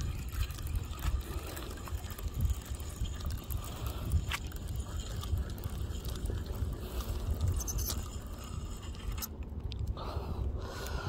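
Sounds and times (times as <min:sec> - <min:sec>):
fishing reel clicking and scraping: 0:00.0 - 0:09.4
wind rumble on microphone: 0:00.0 - 0:11.0.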